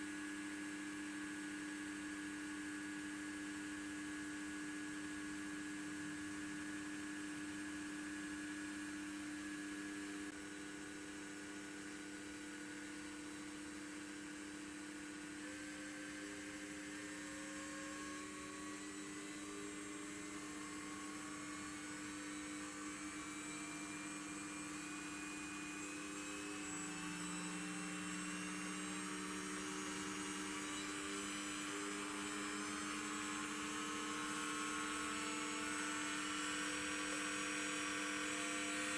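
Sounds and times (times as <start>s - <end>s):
spindle electric hum and whine: 0.0s - 38.9s.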